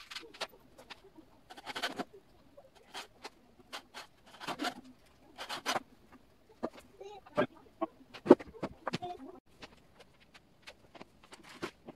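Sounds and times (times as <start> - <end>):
light scratching and tapping: 0.0 - 11.9.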